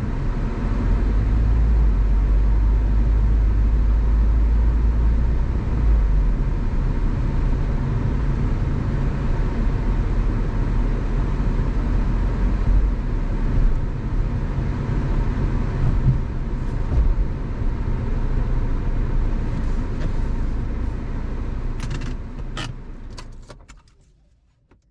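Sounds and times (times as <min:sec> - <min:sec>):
car engine and road rumble: 0:00.0 - 0:24.9.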